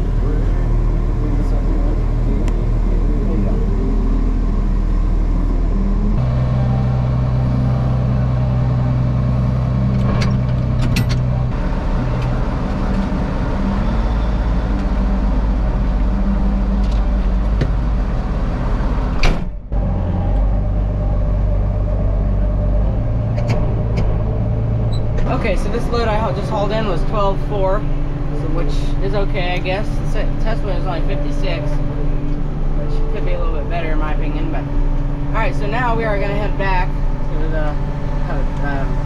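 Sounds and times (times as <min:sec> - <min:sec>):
vehicle engine running under load: 0:00.0 - 0:39.0.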